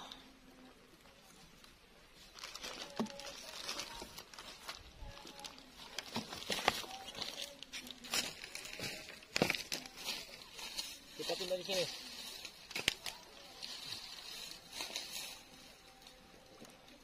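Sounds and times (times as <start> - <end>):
rustling in dry grass: 1.2 - 17.0.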